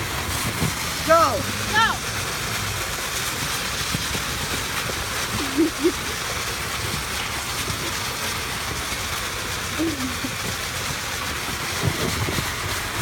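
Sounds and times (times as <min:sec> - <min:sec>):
lawn sprinkler hissing: 0:00.0 - 0:13.0.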